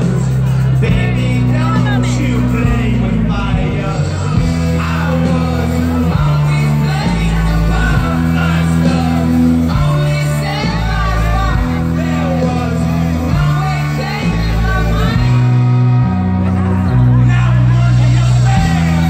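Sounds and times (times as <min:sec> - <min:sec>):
held bass notes: 0:00.0 - 0:19.0
rock band playing live: 0:00.0 - 0:19.0
singer singing and shouting: 0:00.0 - 0:19.0.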